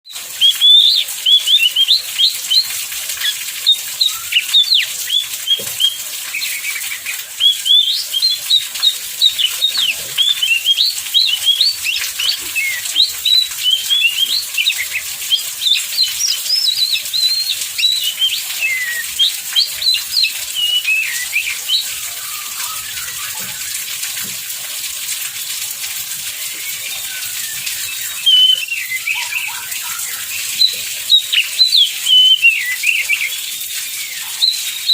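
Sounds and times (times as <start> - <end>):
bird singing whistles and chirps: 0.4 - 23.9, 26.4 - 34.9.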